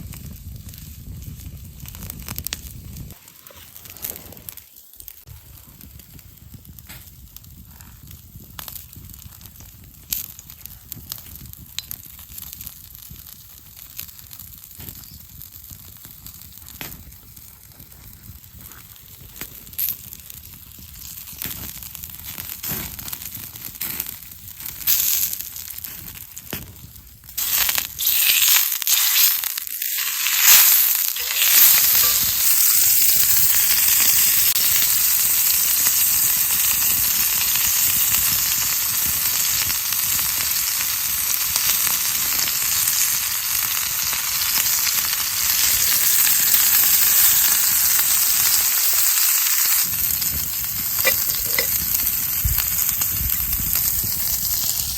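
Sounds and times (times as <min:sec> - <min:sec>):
fire crackles and clicks: 0:00.0 - 0:54.9
meat sizzling over a campfire: 0:00.0 - 0:54.9.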